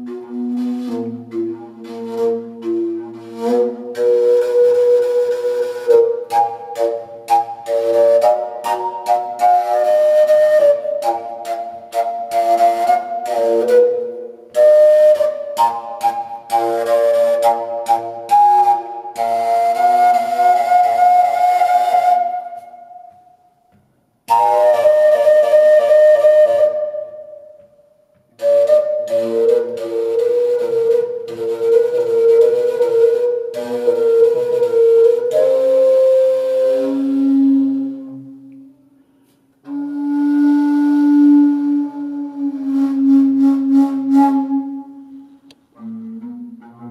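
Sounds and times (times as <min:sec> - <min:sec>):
solo flute melody: 0:00.0 - 0:46.9.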